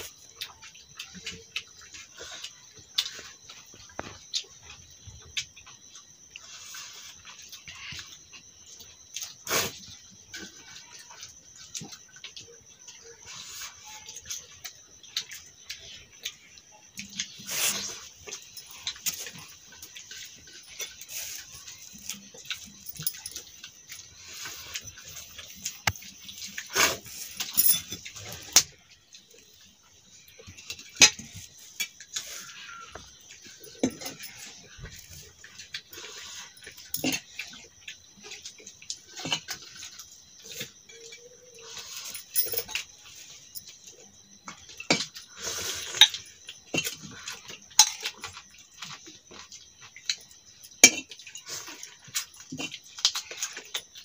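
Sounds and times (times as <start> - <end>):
wet chewing and mouth sounds: 0.0 - 54.0.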